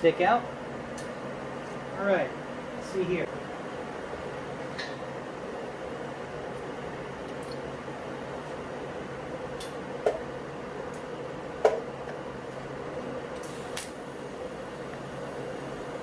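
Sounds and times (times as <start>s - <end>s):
fan humming: 0.0s - 16.0s.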